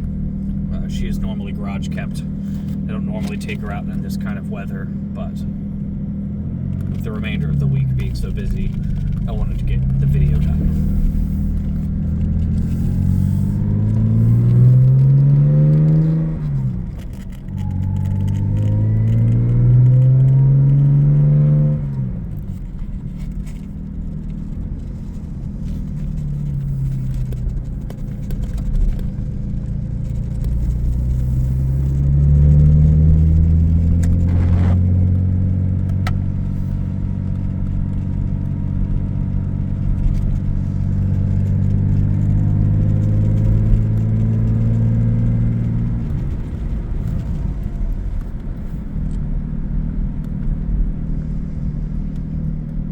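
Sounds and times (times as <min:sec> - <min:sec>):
car engine accelerating through gears: 0:00.0 - 0:52.9.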